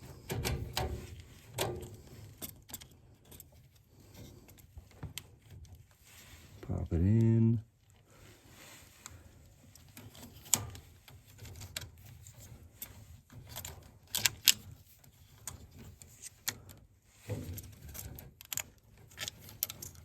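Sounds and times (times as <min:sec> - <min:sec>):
wiring connectors clicking and rattling: 0:00.0 - 0:06.0, 0:09.0 - 0:20.0.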